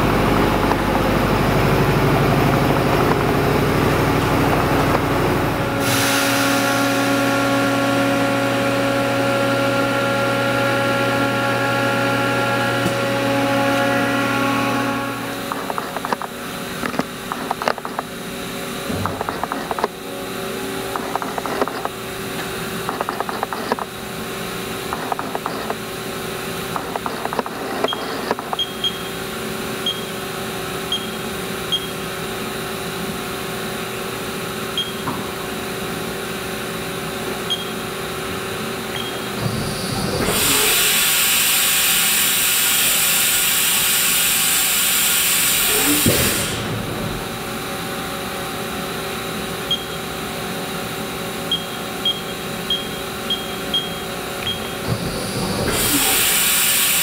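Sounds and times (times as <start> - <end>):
milling machine humming: 0.0 - 57.0.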